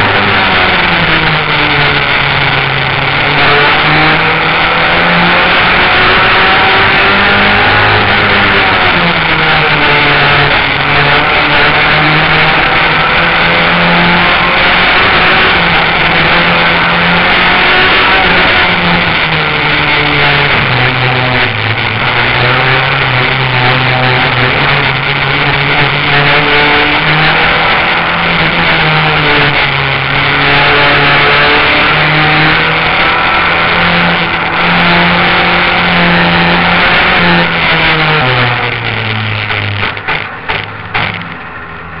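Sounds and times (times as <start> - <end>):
race car engine running hard: 0.0 - 42.0.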